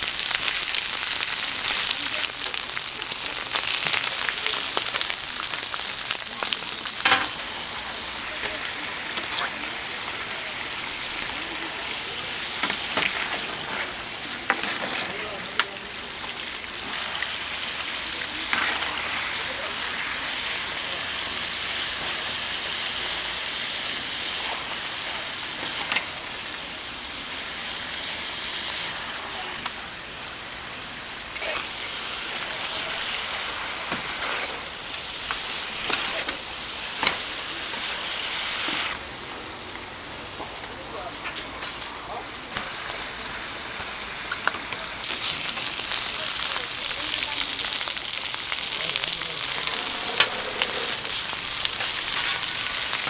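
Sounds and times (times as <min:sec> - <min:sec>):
meat sizzling on a griddle: 0:00.0 - 0:53.0.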